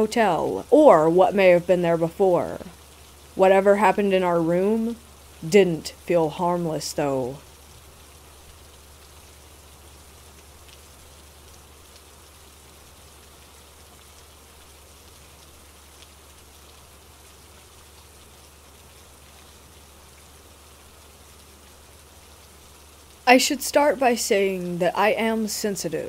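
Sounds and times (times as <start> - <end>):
rain drop ticks: 0.0 - 26.0
soft rain: 0.0 - 26.0.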